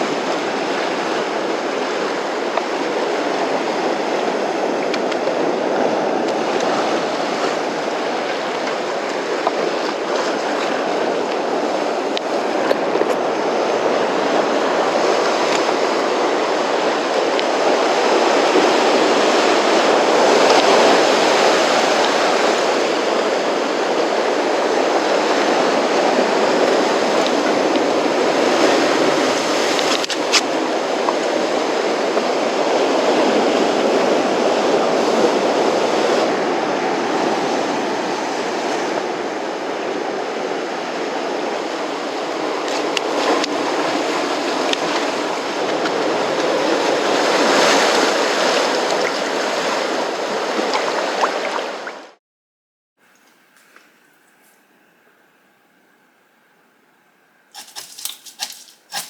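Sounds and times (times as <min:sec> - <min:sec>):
rough sea surf: 0:00.0 - 0:52.2.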